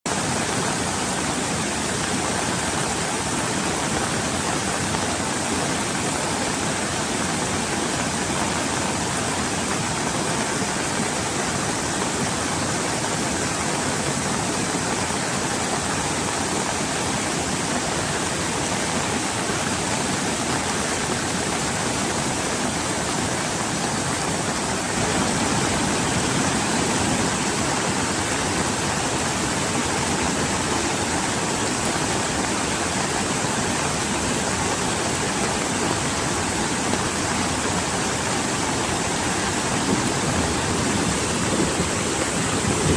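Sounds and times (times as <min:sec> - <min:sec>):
floodwater rushing in river: 0:00.1 - 0:42.9.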